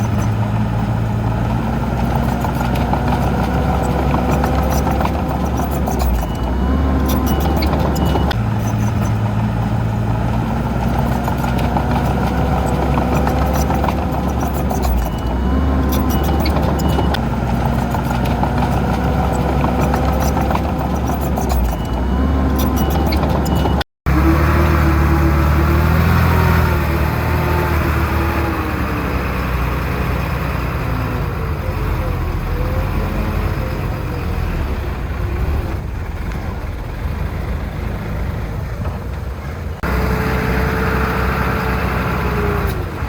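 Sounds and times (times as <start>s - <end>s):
heavy diesel engines running: 0.0s - 43.0s.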